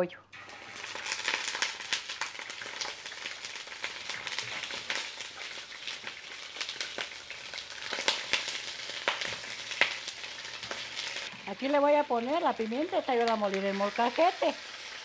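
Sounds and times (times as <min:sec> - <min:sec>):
chicken sizzling in hot oil: 0:00.4 - 0:15.0.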